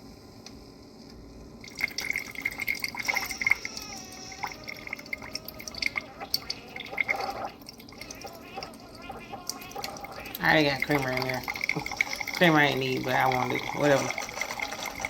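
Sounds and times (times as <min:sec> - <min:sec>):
coffee streaming into cup: 0:01.6 - 0:15.0.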